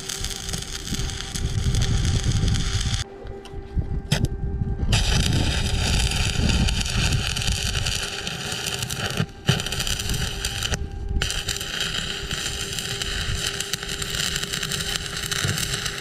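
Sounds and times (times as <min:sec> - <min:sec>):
electric arc welding crackle: 0:00.0 - 0:03.0, 0:04.9 - 0:16.0.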